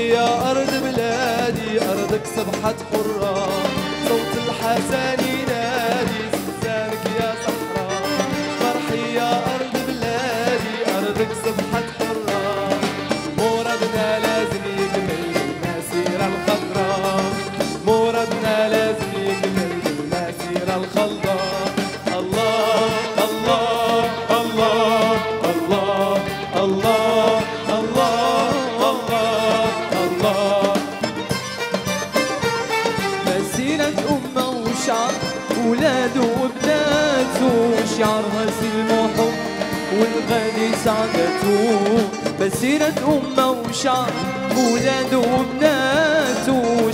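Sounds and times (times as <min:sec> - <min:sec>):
person singing: 0:00.0 - 0:31.4, 0:32.1 - 0:46.9
instrumental backing with percussion: 0:00.0 - 0:46.9
pop band playing live: 0:00.0 - 0:46.9.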